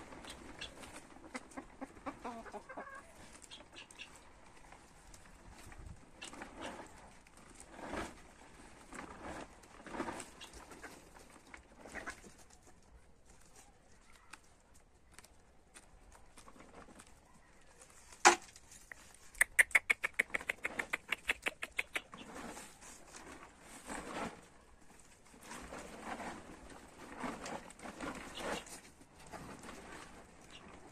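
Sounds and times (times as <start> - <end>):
leaves rustling: 0.0 - 19.4, 20.7 - 30.9.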